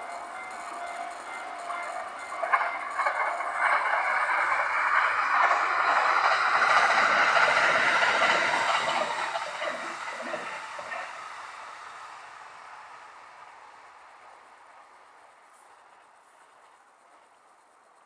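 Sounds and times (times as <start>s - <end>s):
electric train passing: 0.0s - 18.0s
sharp train wheel clacks: 0.0s - 18.0s.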